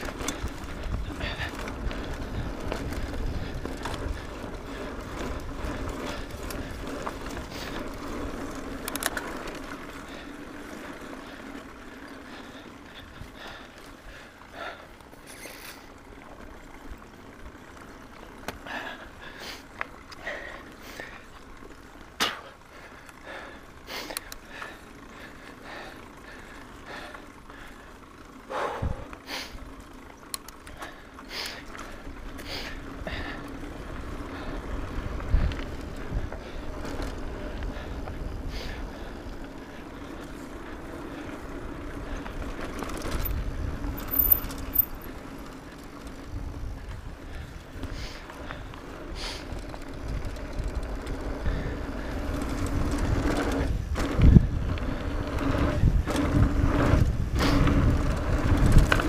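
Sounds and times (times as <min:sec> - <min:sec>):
bike clicks and rattles: 0:00.0 - 0:59.0
tyres rolling over dirt: 0:00.0 - 0:59.0.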